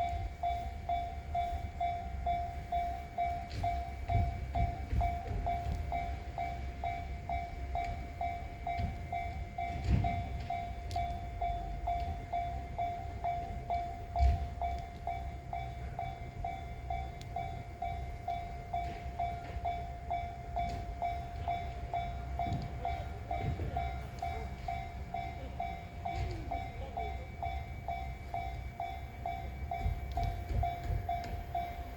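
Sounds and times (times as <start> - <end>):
level crossing warning bell: 0.0 - 31.9
train rumbling past: 0.0 - 31.9.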